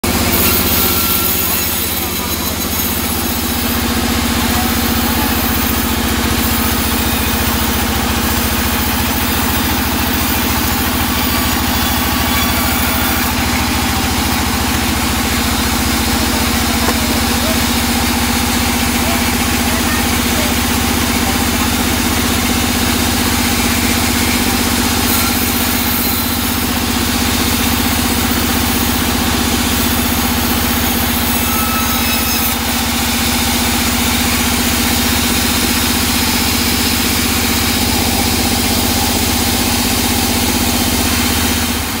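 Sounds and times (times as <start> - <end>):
band saw droning: 0.0 - 42.0
blade hissing through log: 0.0 - 42.0.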